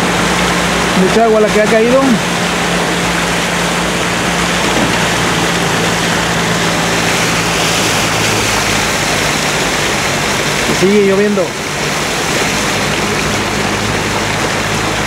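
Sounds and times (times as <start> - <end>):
car engine humming: 0.0 - 15.0
water rushing around car: 0.0 - 15.0.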